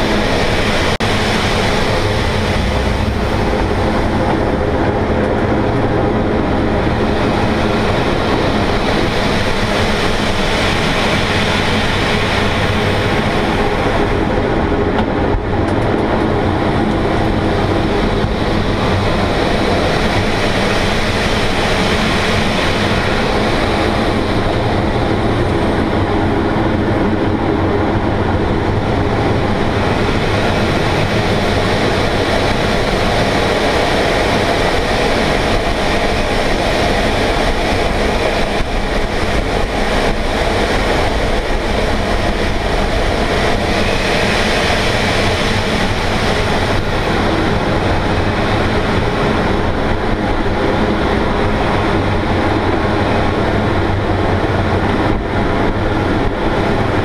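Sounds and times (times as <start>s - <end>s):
rush of air over canopy: 0.0s - 57.0s.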